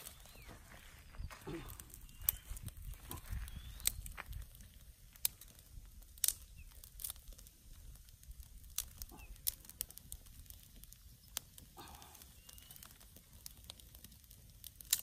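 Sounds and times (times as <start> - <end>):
twig fire crackling: 0.0 - 15.0
sharp snaps of fire: 1.4 - 15.0.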